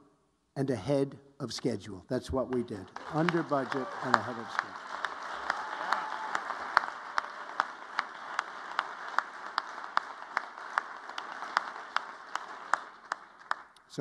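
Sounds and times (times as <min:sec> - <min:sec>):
audience applauding: 0:02.4 - 0:14.0.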